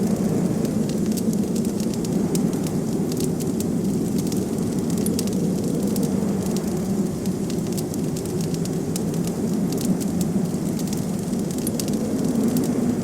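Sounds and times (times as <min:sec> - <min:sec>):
blizzard wind rushing: 0:00.0 - 0:13.0
wood fire crackling: 0:00.0 - 0:13.0.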